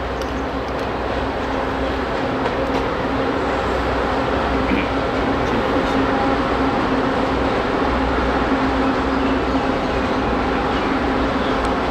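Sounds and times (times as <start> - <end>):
train hum and rumble: 0.0 - 11.9.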